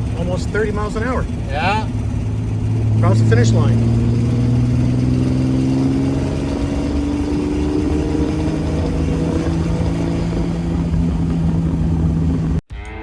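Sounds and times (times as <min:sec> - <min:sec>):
car engine running: 0:00.0 - 0:12.6
road and wind noise: 0:00.0 - 0:12.6.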